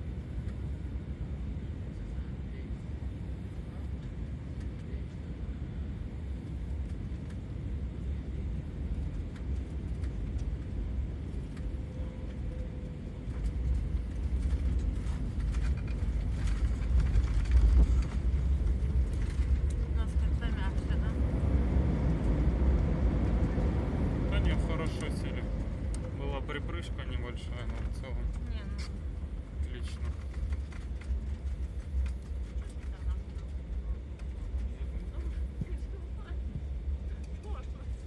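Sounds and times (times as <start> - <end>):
jet cabin engine rumble: 0.0 - 38.0.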